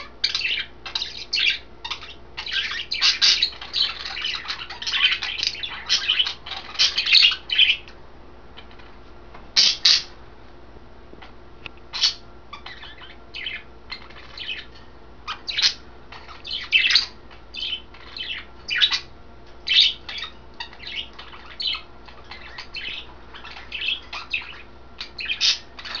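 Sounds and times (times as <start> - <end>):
budgerigars chirping: 0.0 - 7.9, 9.6 - 10.2, 11.9 - 26.0.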